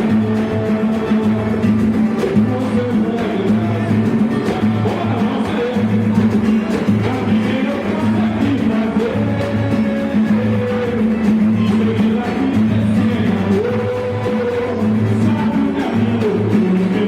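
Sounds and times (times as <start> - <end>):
person singing melody: 0.0 - 17.0
samba band playing: 0.0 - 17.0.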